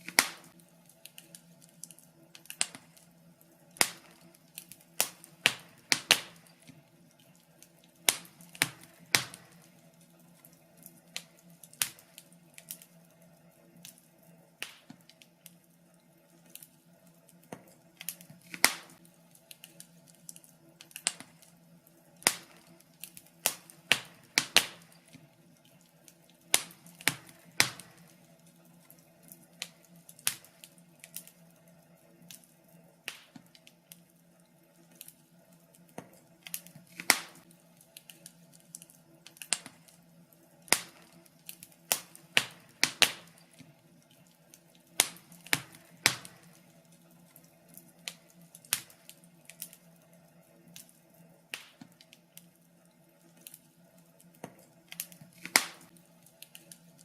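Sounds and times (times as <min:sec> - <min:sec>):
faint steady hum: 0:00.0 - 0:57.0
wood fire crackling and popping: 0:00.0 - 0:57.0.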